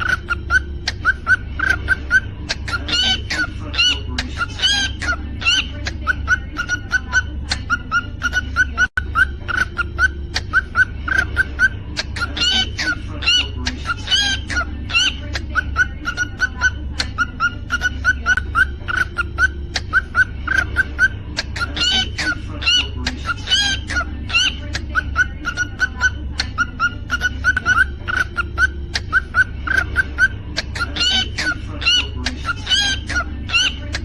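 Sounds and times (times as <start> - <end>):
cockatiel chirping and whistling: 0.0 - 33.8.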